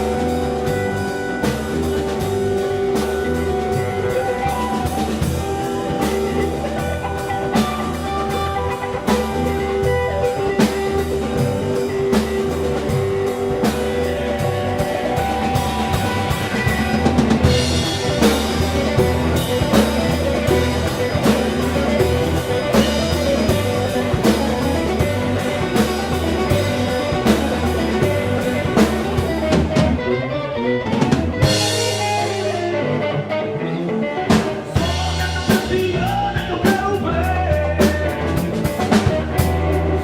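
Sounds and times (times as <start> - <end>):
drum kit beat: 0.0 - 30.2, 30.8 - 33.2, 34.2 - 40.0
blues band playing: 0.0 - 40.0
electric guitar: 0.0 - 40.0.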